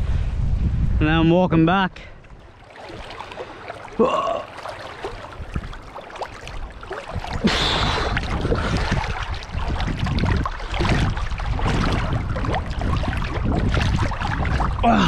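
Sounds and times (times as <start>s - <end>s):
water sloshing and splashing: 2.2s - 15.0s.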